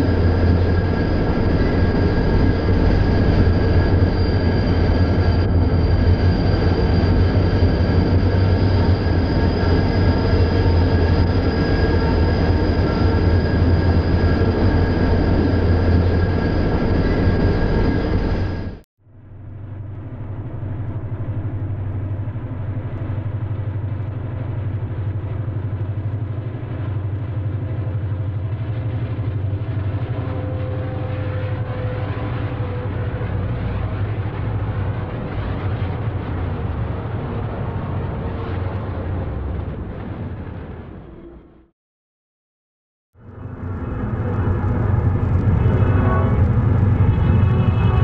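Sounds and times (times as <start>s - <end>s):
diesel locomotive engines rumbling: 0.0s - 41.7s, 43.2s - 48.0s.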